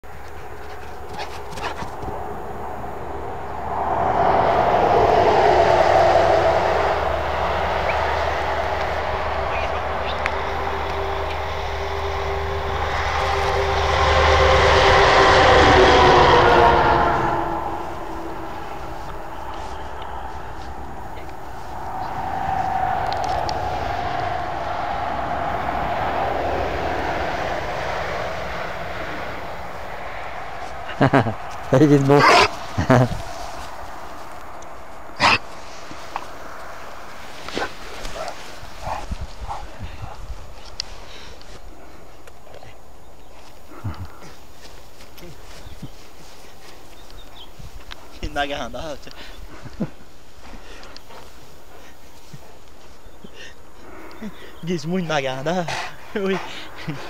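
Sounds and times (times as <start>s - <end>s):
vehicle passing on highway: 0.0s - 42.3s, 43.4s - 57.0s
distant engine drone: 0.0s - 57.0s.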